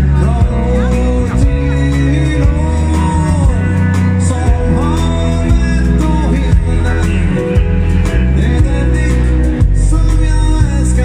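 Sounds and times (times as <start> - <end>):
live band playing: 0.0 - 11.0
person singing: 0.0 - 11.0.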